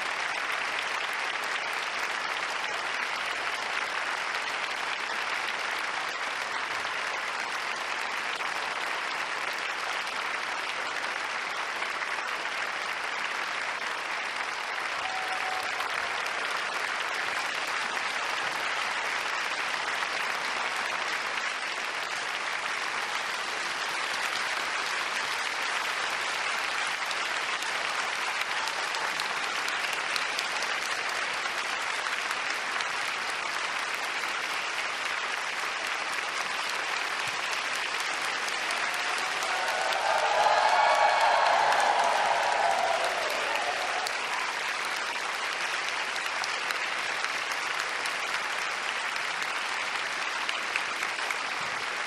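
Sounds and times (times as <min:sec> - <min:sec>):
crowd applauding: 0:00.0 - 0:52.0.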